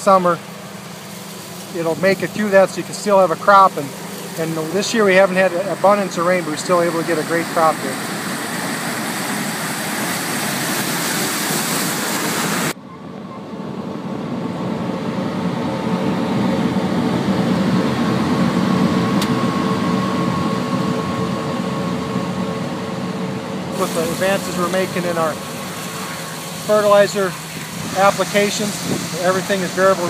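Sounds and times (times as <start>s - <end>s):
loud rushing machinery noise: 0.0s - 12.8s, 13.5s - 30.0s
dull engine drone with whine: 0.0s - 30.0s.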